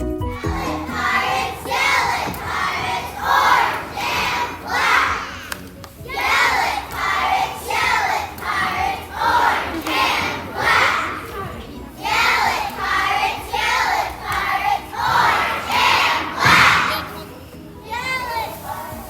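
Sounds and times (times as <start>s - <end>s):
children chanting together: 0.4s - 19.0s.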